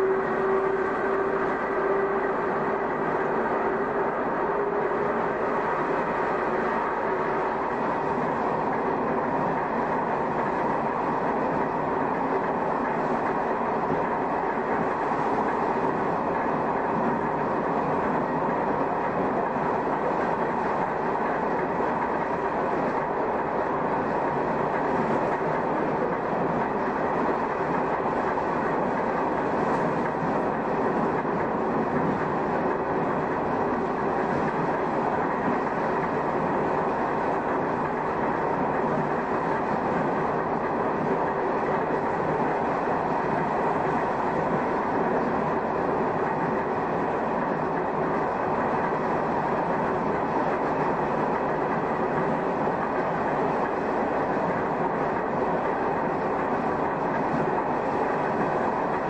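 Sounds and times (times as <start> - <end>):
electric train traction motors droning: 0.0 - 59.0
train wheels on rails: 0.0 - 59.0.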